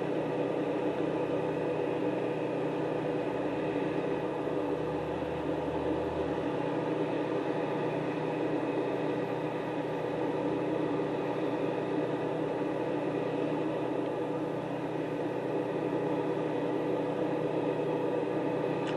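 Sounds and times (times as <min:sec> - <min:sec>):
machine hum: 0:00.0 - 0:18.9.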